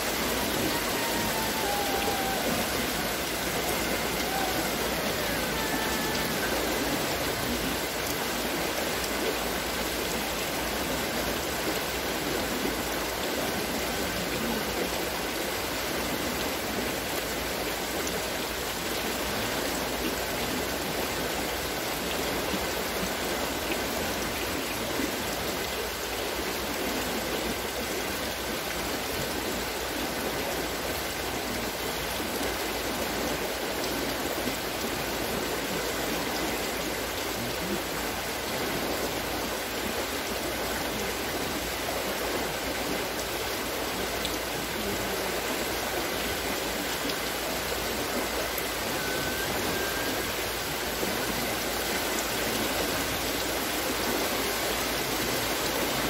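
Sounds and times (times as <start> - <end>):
water wheel splashing water: 0.0 - 56.0.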